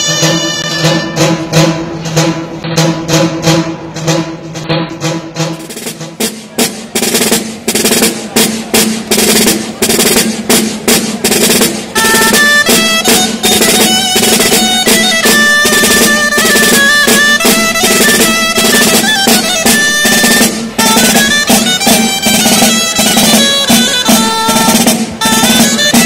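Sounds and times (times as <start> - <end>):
drum beating dance rhythm: 0.0 - 26.0
high reed melody: 0.0 - 26.0.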